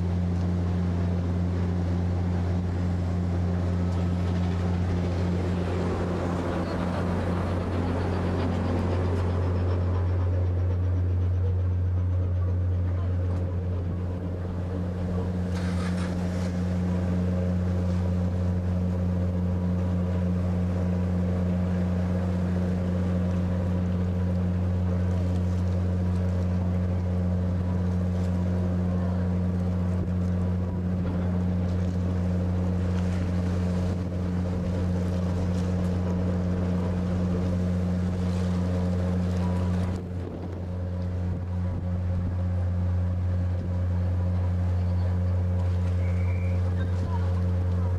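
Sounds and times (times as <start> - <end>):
ferry engines droning: 0.0 - 47.9
water rushing past hull: 0.0 - 47.9.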